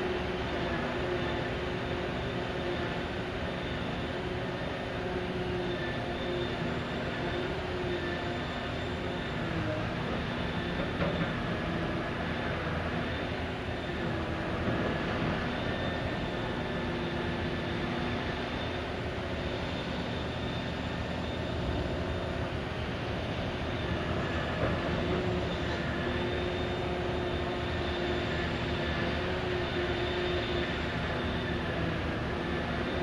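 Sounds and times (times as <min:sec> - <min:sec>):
faint high whine: 0:00.0 - 0:33.0.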